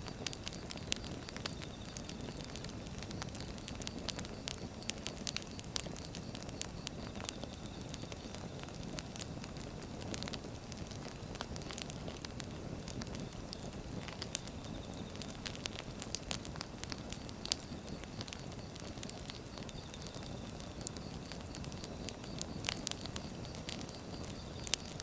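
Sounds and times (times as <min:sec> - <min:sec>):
logs crackling and popping: 0:00.0 - 0:25.0
low rush of flame: 0:00.0 - 0:25.0.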